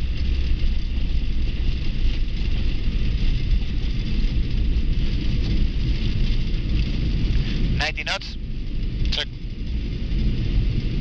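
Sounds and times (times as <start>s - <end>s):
low runway and engine rumble: 0.0s - 11.0s.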